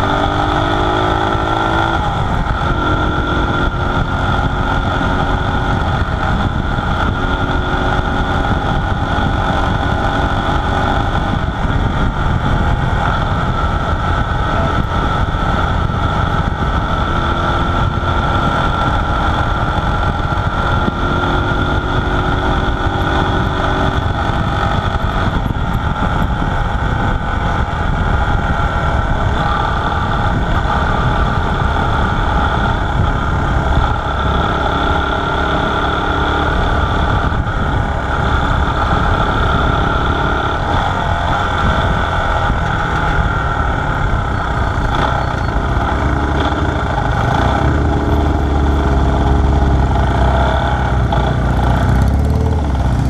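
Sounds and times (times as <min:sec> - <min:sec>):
low rumble: 0:00.0 - 0:53.0
motorcycle engine running: 0:00.0 - 0:53.0
wind on microphone: 0:00.0 - 0:53.0.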